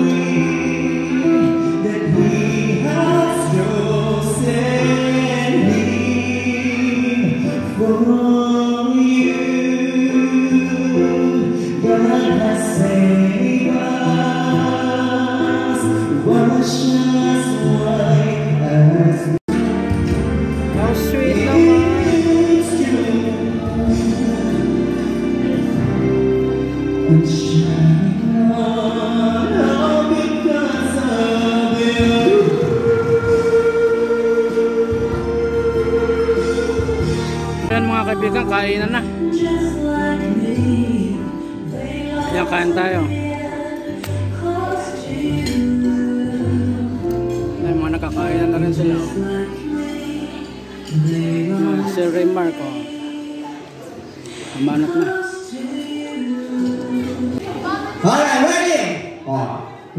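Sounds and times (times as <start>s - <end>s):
man singing into microphone: 0.0s - 57.4s
backing music: 0.0s - 59.9s.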